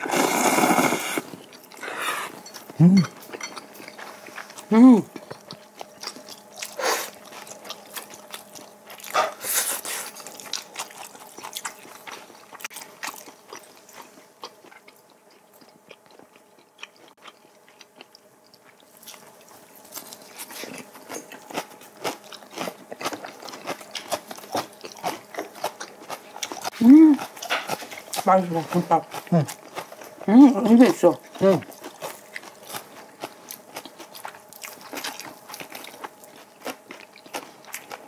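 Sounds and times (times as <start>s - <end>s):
people chewing and crunching food: 0.0s - 38.0s.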